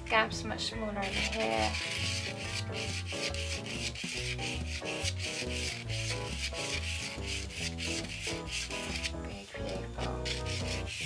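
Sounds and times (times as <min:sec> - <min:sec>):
background music with bass: 0:00.0 - 0:11.0
pencil scratching on paper: 0:01.0 - 0:11.0.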